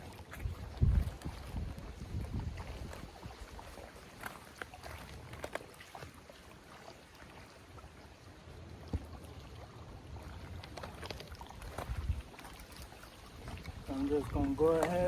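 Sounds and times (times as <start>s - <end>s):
water trickling and lapping: 0.0s - 15.0s.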